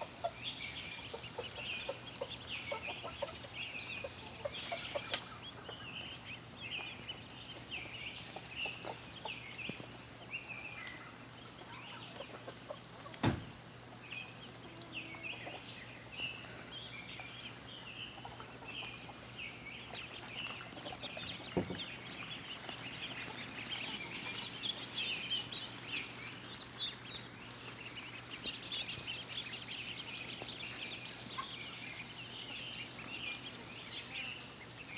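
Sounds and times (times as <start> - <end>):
ducklings peeping: 0.0 - 34.9.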